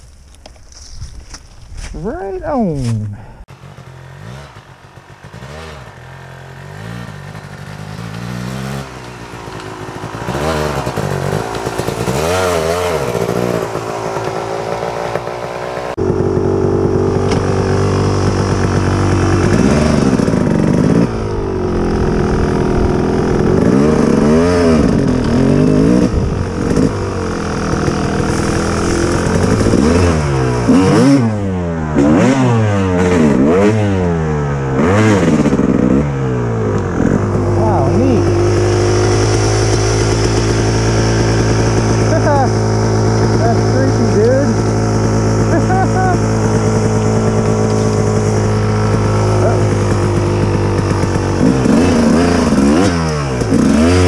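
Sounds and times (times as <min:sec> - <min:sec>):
dirt bike engine revving: 0:02.0 - 0:54.0.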